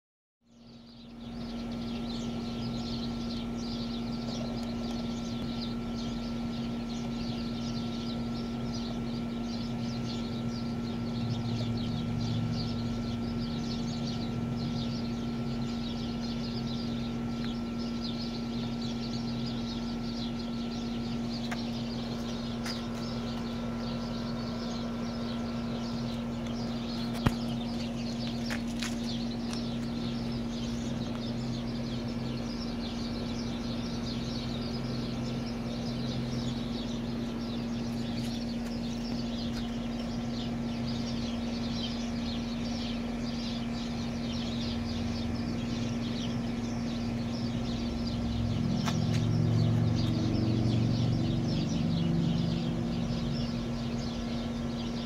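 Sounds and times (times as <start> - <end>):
birds chirping: 0.4 - 55.0
low hum: 0.5 - 55.0.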